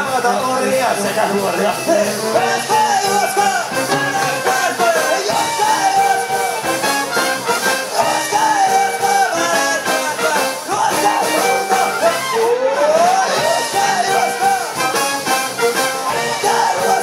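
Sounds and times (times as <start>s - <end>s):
bass drum beat: 0.2s - 12.4s, 13.1s - 17.0s
brass and tuba: 0.3s - 17.0s.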